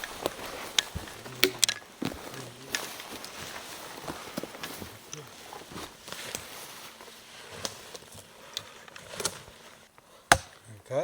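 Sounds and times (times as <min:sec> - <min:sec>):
faint rustling: 0:00.0 - 0:10.3.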